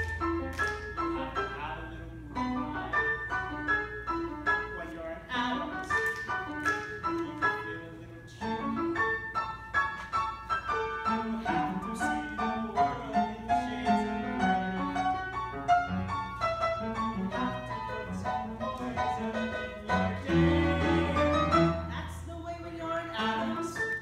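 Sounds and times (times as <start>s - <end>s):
piano playing dance passage: 0.0s - 24.0s.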